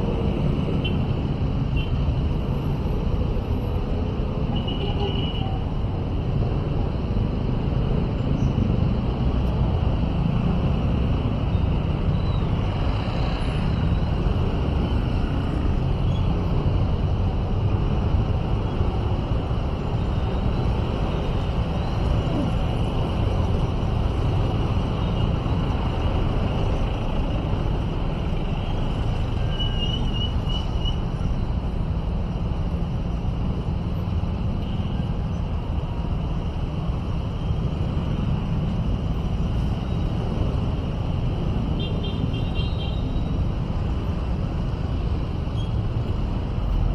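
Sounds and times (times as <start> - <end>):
road noise: 0.0 - 46.9
traffic passing close by: 0.0 - 46.9.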